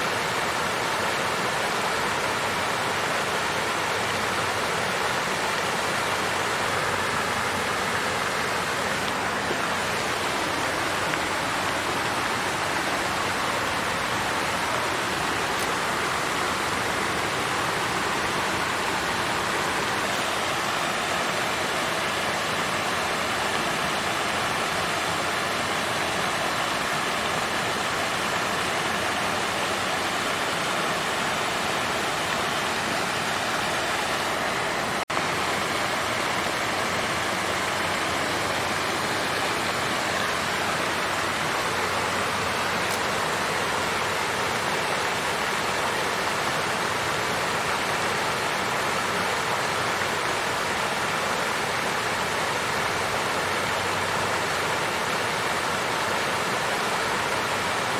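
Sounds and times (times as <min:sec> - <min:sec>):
water fountain splashing: 0:00.0 - 0:57.9.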